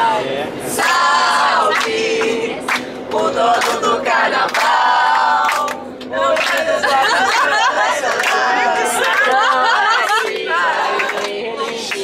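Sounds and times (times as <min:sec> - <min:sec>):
group singing in chorus: 0:00.0 - 0:12.0.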